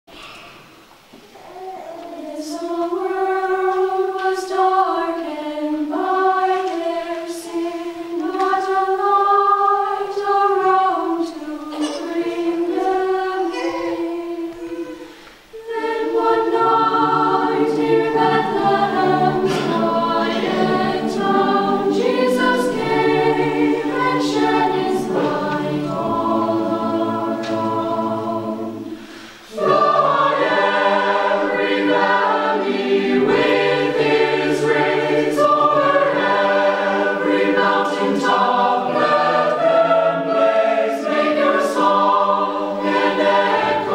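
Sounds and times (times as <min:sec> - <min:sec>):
choir singing unaccompanied: 0:01.4 - 0:43.9.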